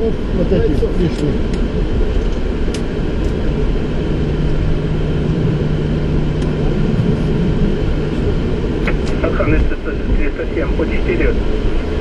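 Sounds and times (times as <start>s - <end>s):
jet engines idling: 0.0s - 12.0s
low steady hum: 0.0s - 12.0s
rushing air: 1.4s - 12.0s.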